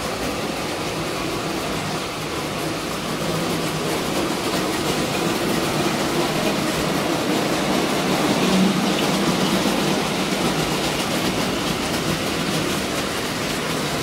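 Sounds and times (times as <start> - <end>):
model trains rumbling on track: 0.0 - 14.0.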